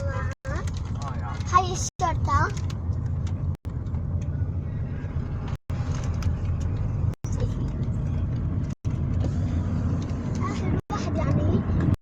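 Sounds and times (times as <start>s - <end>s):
car rumbling on the move: 0.0s - 12.0s.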